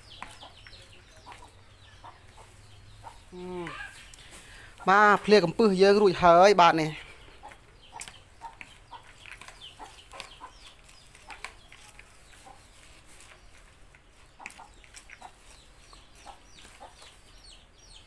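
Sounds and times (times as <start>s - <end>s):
background calls: 0.0s - 18.0s.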